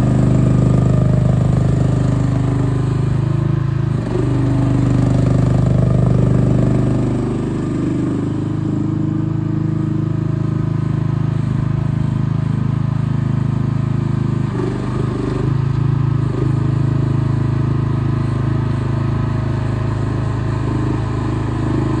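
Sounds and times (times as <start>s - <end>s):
mini excavator engine running: 0.0s - 22.0s.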